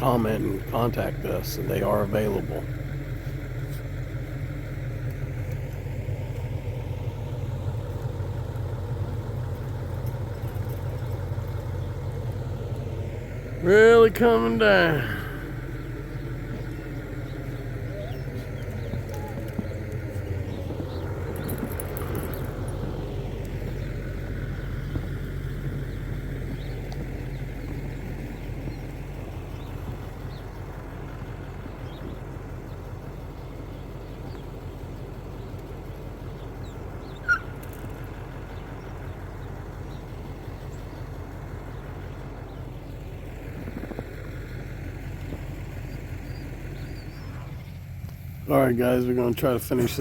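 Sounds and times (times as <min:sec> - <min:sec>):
truck engine droning: 0:00.0 - 0:50.0.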